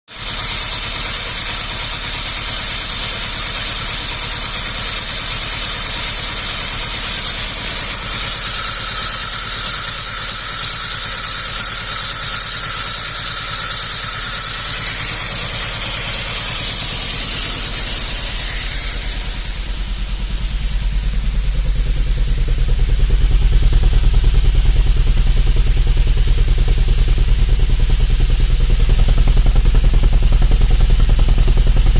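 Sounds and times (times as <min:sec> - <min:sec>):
engine idling roughly: 0:00.1 - 0:31.9
high whine: 0:04.2 - 0:31.9.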